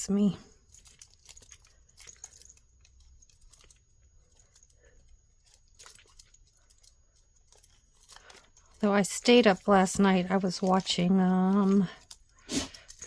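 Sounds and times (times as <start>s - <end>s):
metal chain clicks and rustles: 0.0s - 13.0s.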